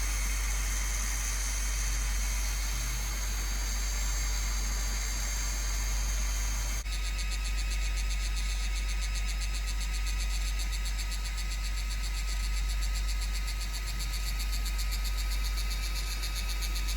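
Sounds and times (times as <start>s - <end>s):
loud printer hum and whine: 0.0s - 16.9s.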